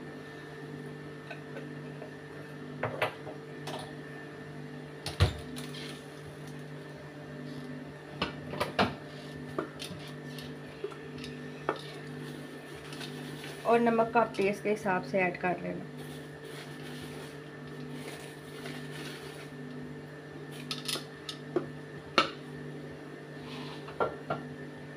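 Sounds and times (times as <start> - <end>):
steady mechanical hum: 0.0 - 24.9.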